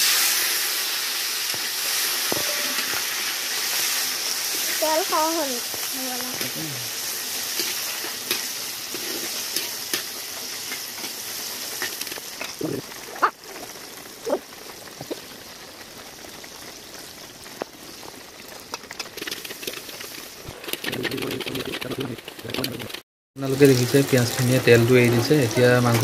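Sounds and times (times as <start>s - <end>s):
onions sizzling in oil: 0.0s - 20.5s, 23.4s - 26.0s.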